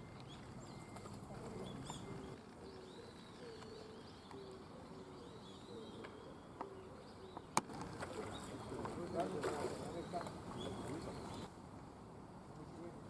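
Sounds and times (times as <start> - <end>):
birds calling low notes: 0.0 - 11.5.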